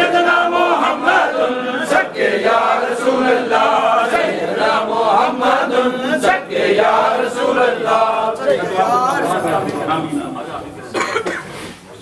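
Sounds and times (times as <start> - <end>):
men chanting in unison: 0.0 - 9.8.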